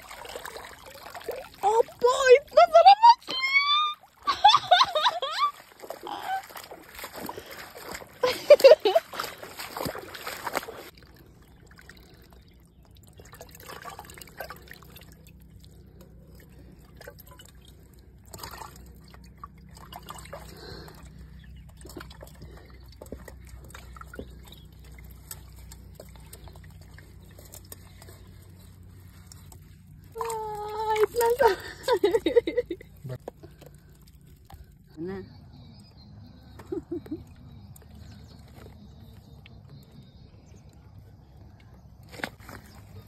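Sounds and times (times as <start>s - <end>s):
water splashing and dripping: 0.0s - 35.0s
faint trickling water: 0.0s - 43.0s.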